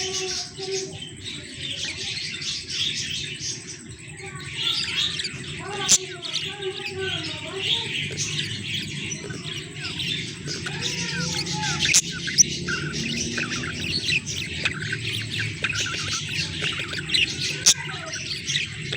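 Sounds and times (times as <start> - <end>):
budgerigars chirping and chattering: 0.0 - 18.9
steady low hum: 2.5 - 18.9.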